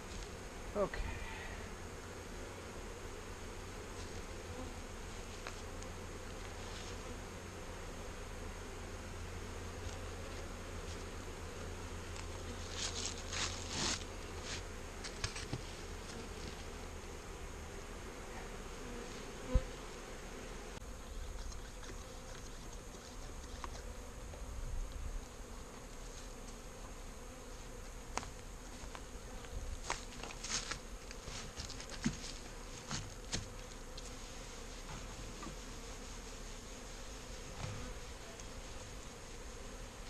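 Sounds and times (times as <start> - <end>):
bees buzzing: 0.0 - 40.0.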